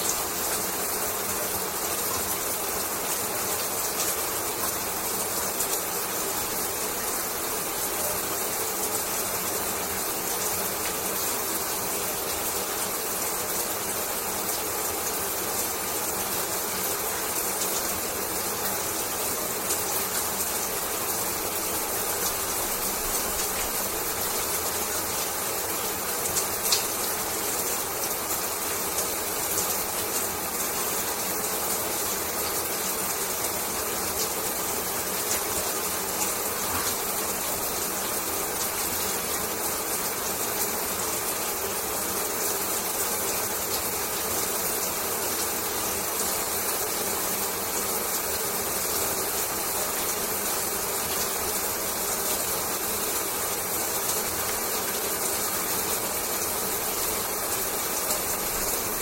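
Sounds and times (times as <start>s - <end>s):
shower spraying water: 0.0s - 59.0s.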